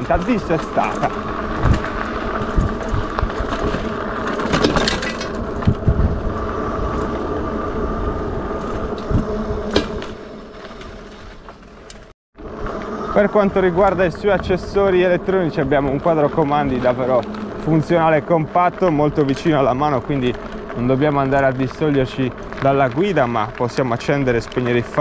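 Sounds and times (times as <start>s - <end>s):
electric hub motor whine: 0.0s - 23.3s
bike rattling on rough road: 0.0s - 25.0s.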